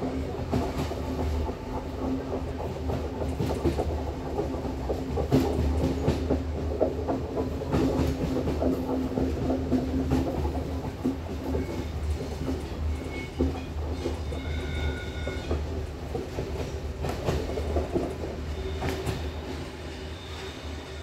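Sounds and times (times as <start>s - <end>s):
wheels clacking over rail joints: 0.0s - 19.9s
train rumbling: 0.0s - 21.0s.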